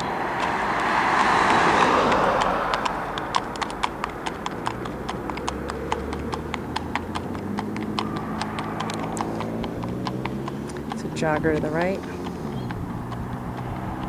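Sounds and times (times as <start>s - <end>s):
horse hooves clip-clopping on asphalt: 0.0s - 14.0s.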